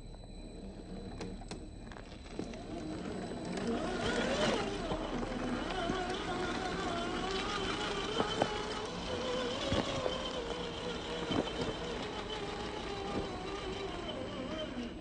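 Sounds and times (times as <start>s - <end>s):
electric motor whining: 0.0s - 15.0s
clicks of tyres on stones: 1.5s - 15.0s.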